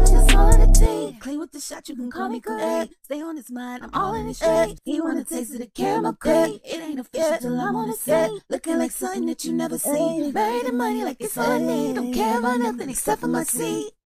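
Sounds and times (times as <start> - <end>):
a cappella singing: 0.0 - 14.0.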